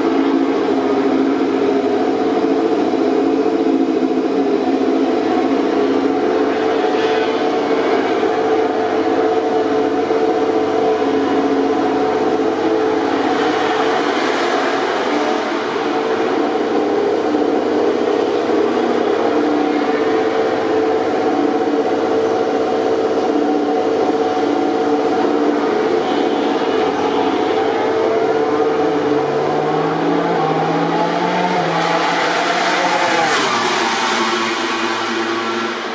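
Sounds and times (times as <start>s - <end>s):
racing motorcycle engine: 0.0s - 35.9s
rush of noise: 0.0s - 35.9s.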